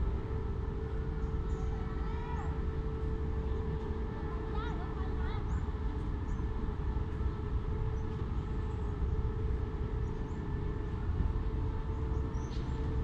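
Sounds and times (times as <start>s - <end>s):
distant diesel locomotive rumble: 0.0s - 13.0s.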